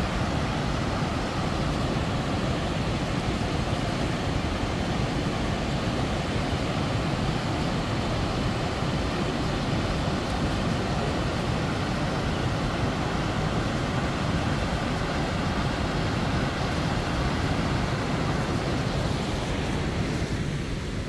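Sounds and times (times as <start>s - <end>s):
whitewater rushing: 0.0s - 21.0s.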